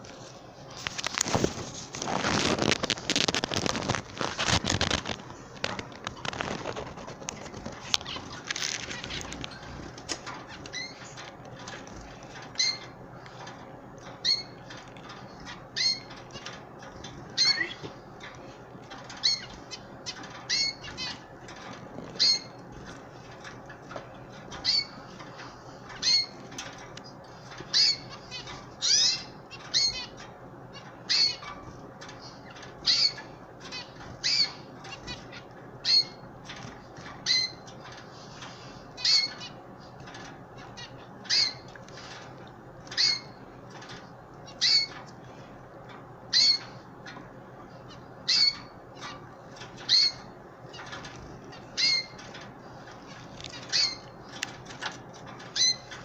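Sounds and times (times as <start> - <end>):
canary chirping: 2.2 - 13.0, 14.0 - 38.0, 38.9 - 42.2, 42.8 - 45.1, 46.3 - 56.0.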